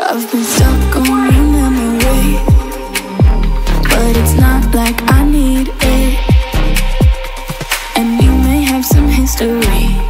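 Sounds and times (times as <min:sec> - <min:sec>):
electronic pop music: 0:00.0 - 0:10.0
deep sliding bass hits: 0:00.6 - 0:10.0.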